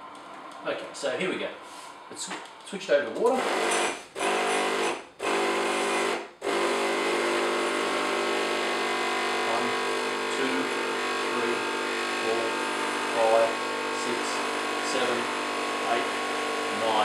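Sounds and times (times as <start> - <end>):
espresso machine pump buzzing: 3.4 - 17.0.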